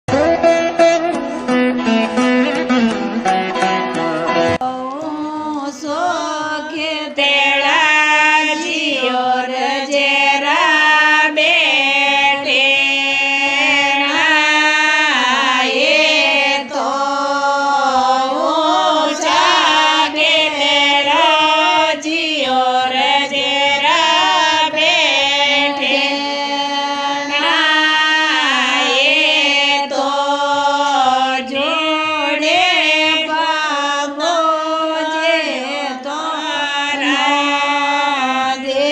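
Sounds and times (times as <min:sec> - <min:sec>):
chant-like devotional folk singing: 0:00.1 - 0:38.9.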